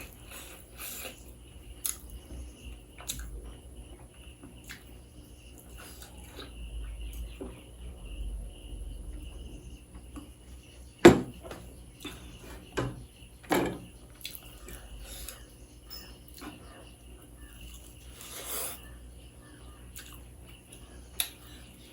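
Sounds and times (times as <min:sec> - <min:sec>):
soft chewing: 0:00.0 - 0:07.8, 0:11.6 - 0:21.9
crickets chirping: 0:00.0 - 0:21.9.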